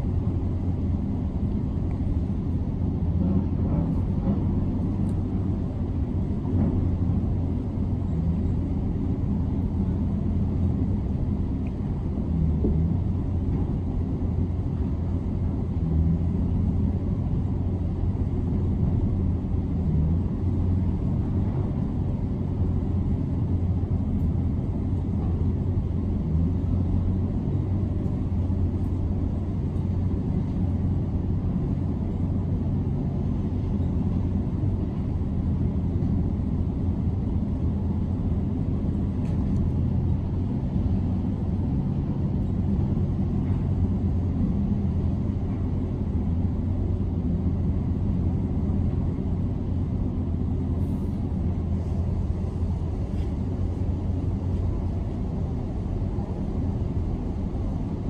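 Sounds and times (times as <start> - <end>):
muffled demolition machinery rumble: 0.0 - 58.0.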